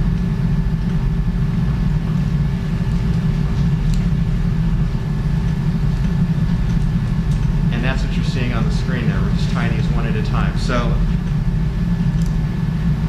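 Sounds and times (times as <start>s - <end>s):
equipment humming: 0.0s - 13.0s.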